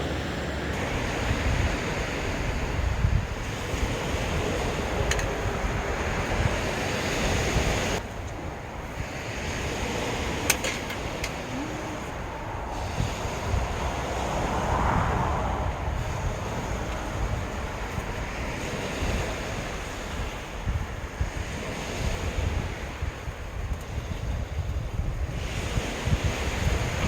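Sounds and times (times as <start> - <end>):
sea waves washing onto beach: 0.0 - 27.0
wind buffeting microphone: 0.0 - 27.0.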